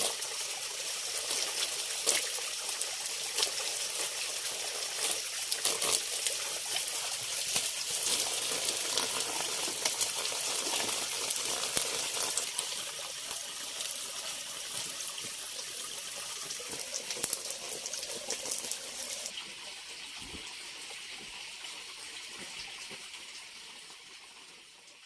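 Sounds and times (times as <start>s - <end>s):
running water splashing: 0.0s - 23.4s.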